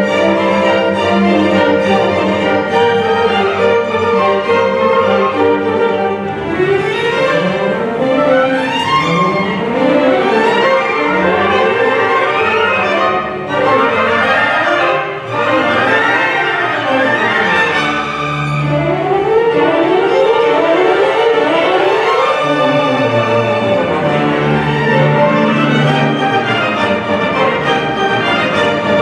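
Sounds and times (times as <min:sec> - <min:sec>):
orchestra strings playing: 0:00.0 - 0:29.0.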